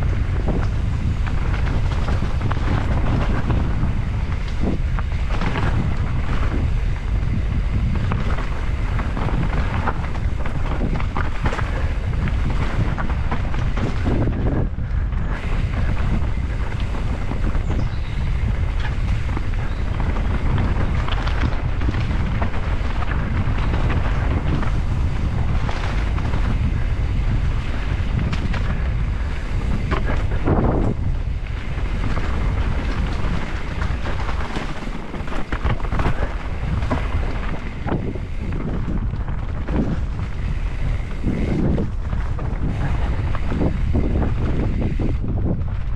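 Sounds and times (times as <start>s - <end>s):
bike knocks and rattles: 0.0s - 45.9s
wind buffeting microphone: 0.0s - 45.9s.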